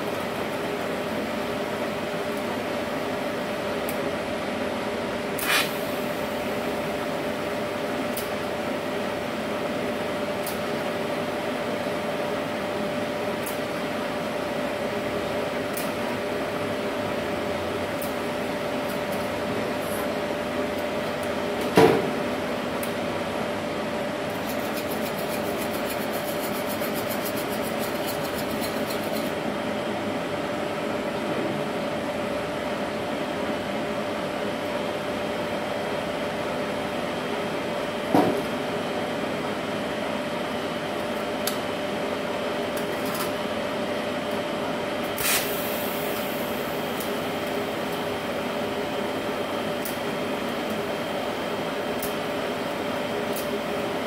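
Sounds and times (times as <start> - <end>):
welding equipment electrical hum: 0.0 - 54.0.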